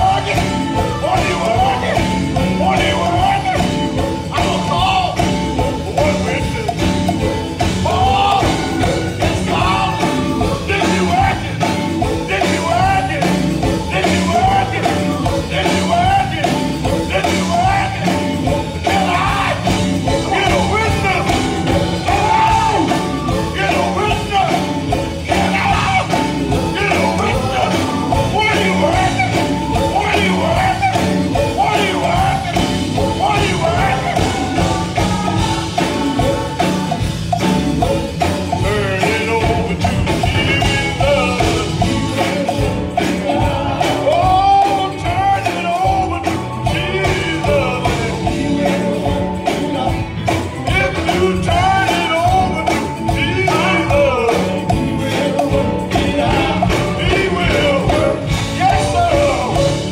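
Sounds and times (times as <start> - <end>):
drums: 0.0 - 59.9
electric guitar: 0.0 - 59.9
male vocal quartet singing gospel: 0.0 - 59.9.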